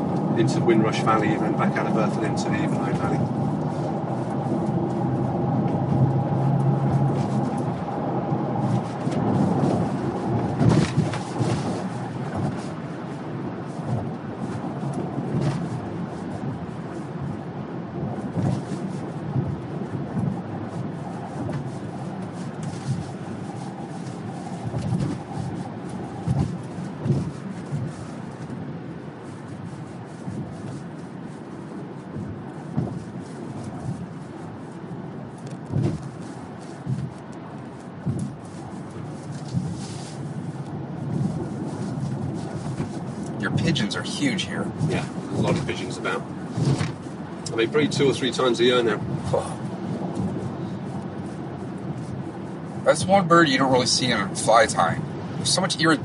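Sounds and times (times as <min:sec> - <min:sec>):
car engine and tyre rumble: 0:00.0 - 0:56.0
road bumps and knocks: 0:00.0 - 0:56.0.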